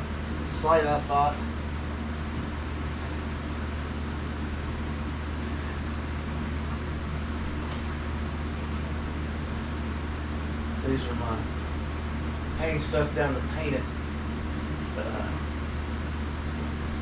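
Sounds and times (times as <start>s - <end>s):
low machine hum with hiss: 0.0s - 17.0s.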